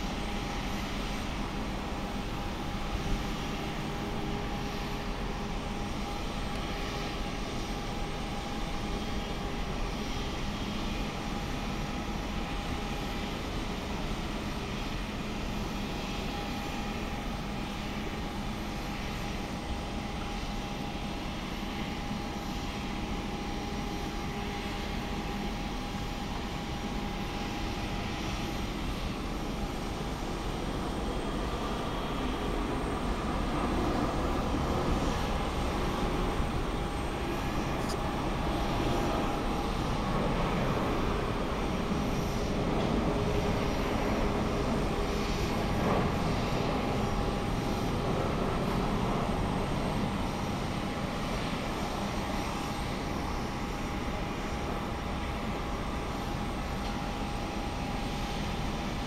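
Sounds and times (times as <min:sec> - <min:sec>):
jet aircraft hum and whine: 0:00.0 - 0:59.0.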